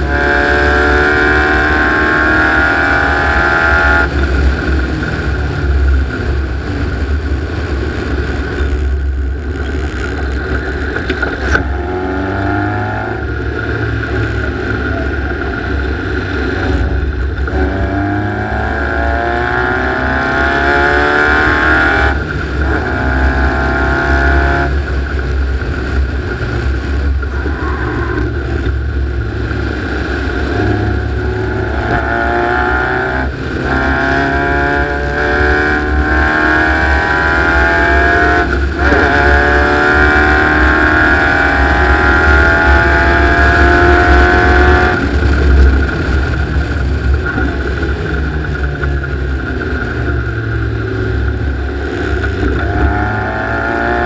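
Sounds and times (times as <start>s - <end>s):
buggy engine revving through gears: 0.0s - 54.0s
low rumble: 0.7s - 54.0s.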